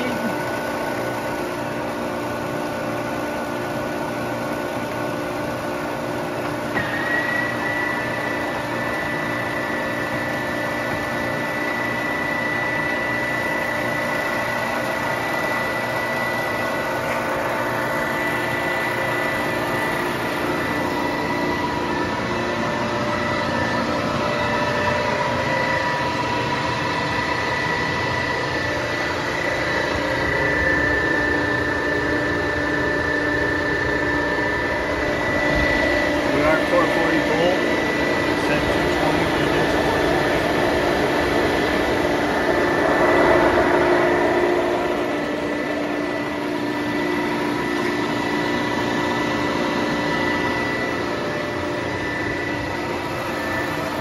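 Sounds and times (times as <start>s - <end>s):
lathe motor humming: 0.0s - 54.0s
whining gears: 0.0s - 54.0s.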